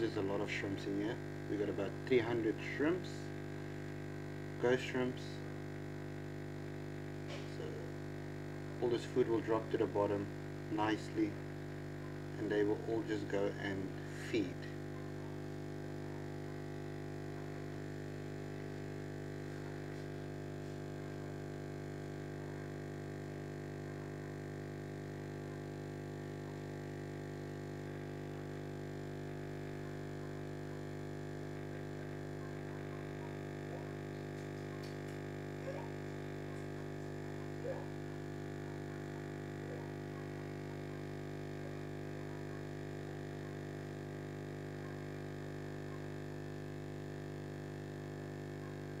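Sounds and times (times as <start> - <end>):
aquarium air pump humming: 0.0 - 49.0.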